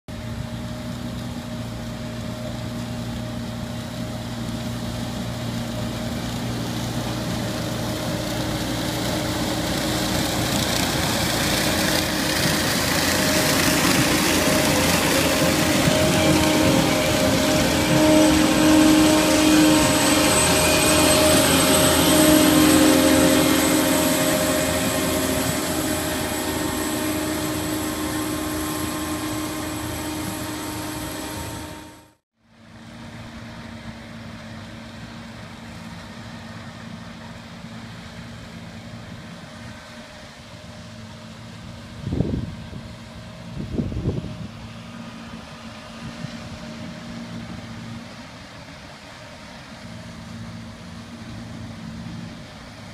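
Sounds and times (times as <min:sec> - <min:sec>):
distant harvester working: 0:00.1 - 0:52.9
harvester machine noise with whines: 0:00.1 - 0:52.9.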